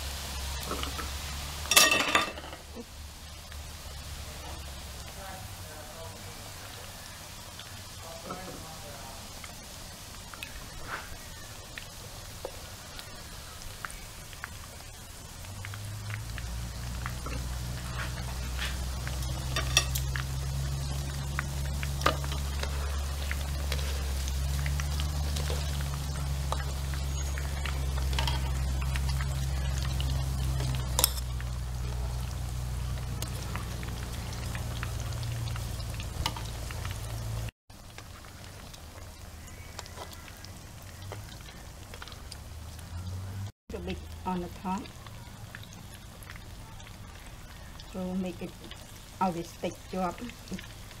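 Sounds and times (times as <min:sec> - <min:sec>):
fish deep-frying in hot oil: 0:00.0 - 0:51.0.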